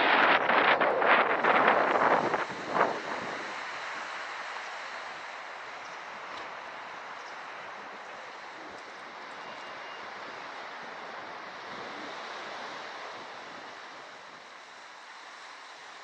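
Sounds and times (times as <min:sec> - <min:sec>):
surf washing against rocks: 0:00.0 - 0:16.0.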